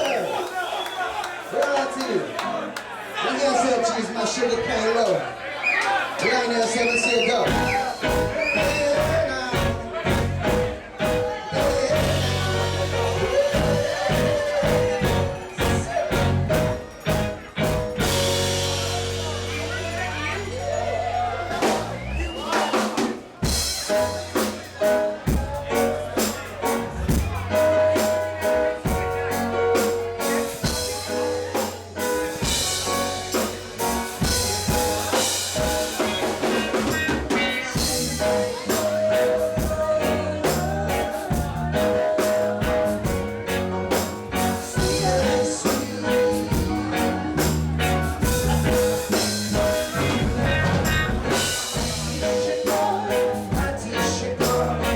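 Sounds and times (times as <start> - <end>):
reggae band playing: 5.7 - 54.9
drum kit rimshots and snare: 7.4 - 19.7, 21.5 - 54.9
bass line: 7.5 - 22.8, 23.4 - 54.9.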